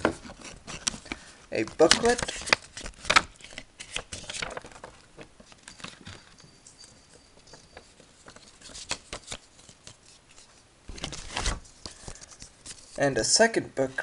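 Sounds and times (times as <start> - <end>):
cardboard and paper handling: 0.0 - 13.1.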